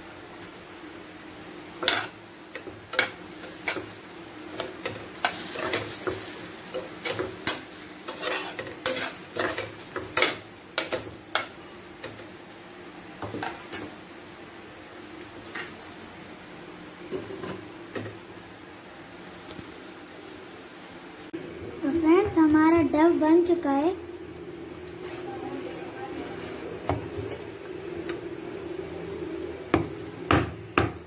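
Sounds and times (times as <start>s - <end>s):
pan sizzling: 0.0s - 20.0s, 21.3s - 31.0s.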